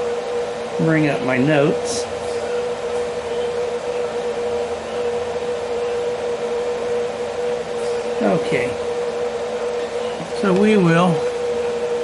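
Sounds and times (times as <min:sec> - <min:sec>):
fan hum with whine: 0:00.0 - 0:12.0.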